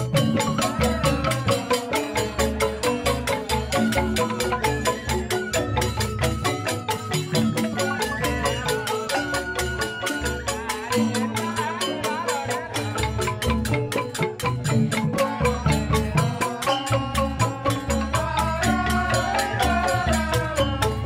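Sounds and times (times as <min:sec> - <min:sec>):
bamboo xylophones playing: 0:00.0 - 0:21.0.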